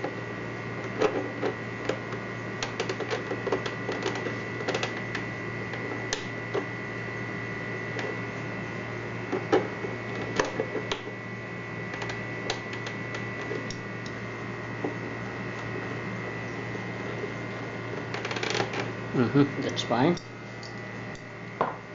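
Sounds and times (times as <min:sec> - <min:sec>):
steady hum with high whine: 0:00.0 - 0:21.9.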